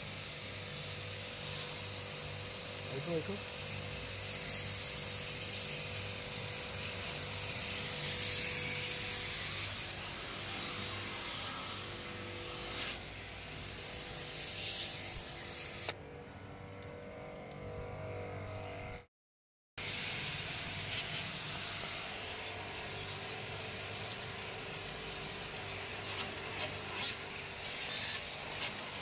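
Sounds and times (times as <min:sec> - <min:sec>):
water jet spraying hiss: 0:00.0 - 0:15.9, 0:19.8 - 0:29.0.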